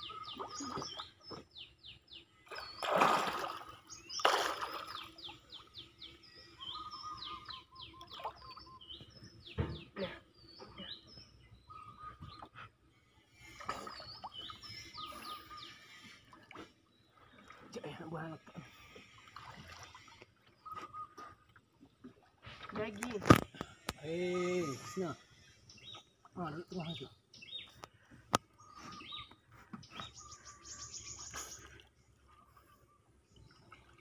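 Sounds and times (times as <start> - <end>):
small birds chirping: 0.0 - 21.6, 22.6 - 34.0.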